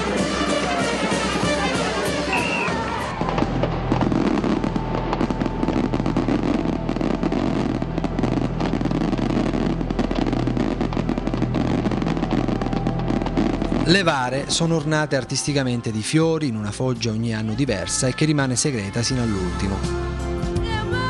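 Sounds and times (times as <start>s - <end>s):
fireworks bangs and crackles: 0.0s - 19.8s.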